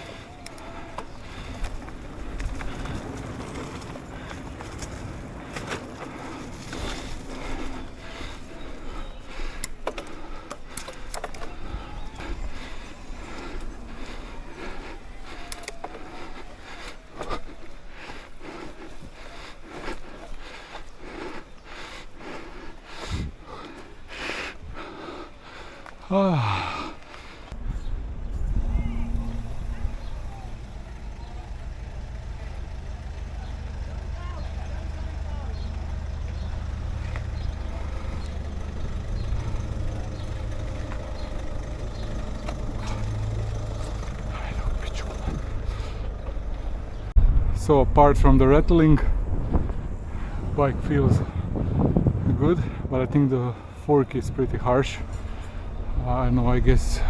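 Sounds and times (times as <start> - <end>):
bike tyres scraping over dirt: 0.0 - 31.2, 35.3 - 57.0
wind rumble: 0.0 - 33.2, 35.7 - 57.0
bike rattling: 0.0 - 57.0.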